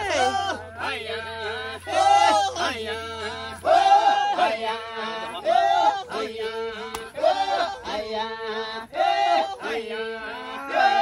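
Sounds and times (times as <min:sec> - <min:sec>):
group chanting: 0:00.0 - 0:11.0.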